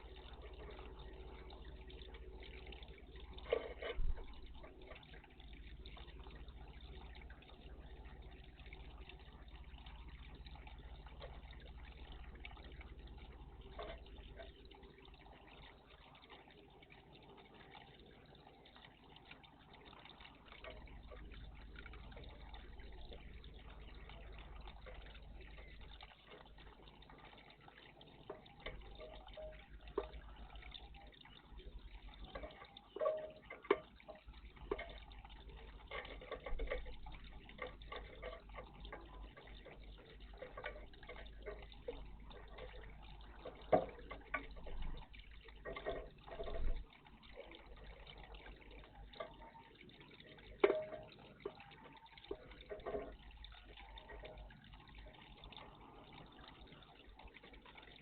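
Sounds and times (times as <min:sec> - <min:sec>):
water splashing and dripping: 0:00.0 - 0:58.0.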